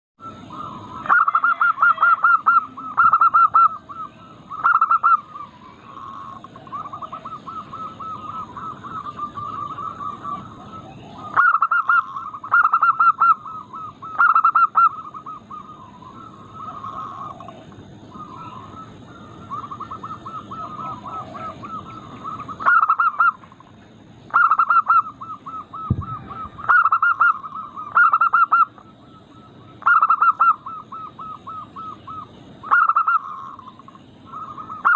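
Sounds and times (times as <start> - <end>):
doves cooing: 0.2 - 34.9.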